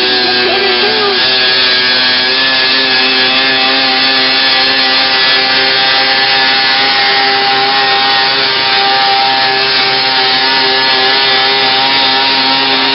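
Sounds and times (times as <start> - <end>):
tractor engine at high revs: 0.0 - 12.9.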